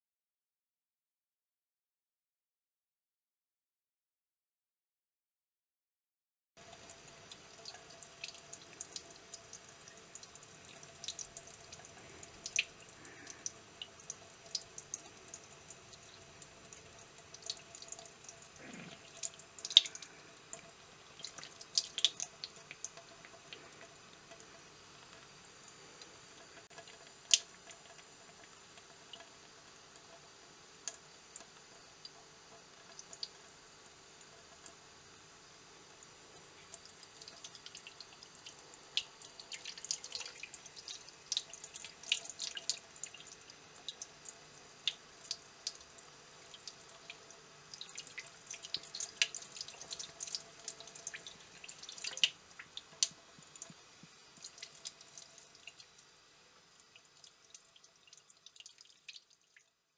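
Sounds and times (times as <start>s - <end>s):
water drips and splashes: 6.6s - 33.6s, 35.9s - 59.9s.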